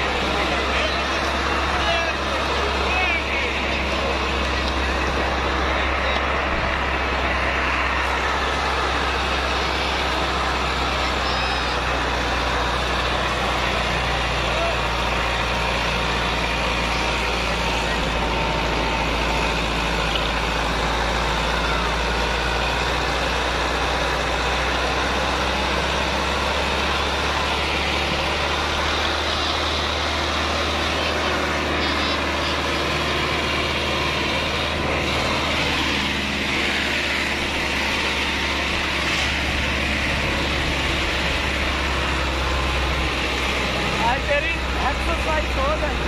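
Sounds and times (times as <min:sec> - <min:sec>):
faint murmuring voices: 0:00.0 - 0:46.0
tractor diesel engine running: 0:00.0 - 0:46.0.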